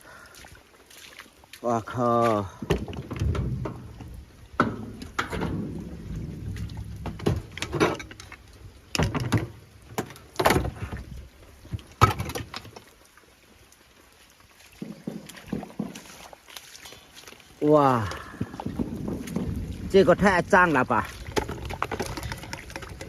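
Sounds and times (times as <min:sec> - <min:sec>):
objects knocking and clattering in water: 0:02.1 - 0:13.0, 0:14.7 - 0:23.0.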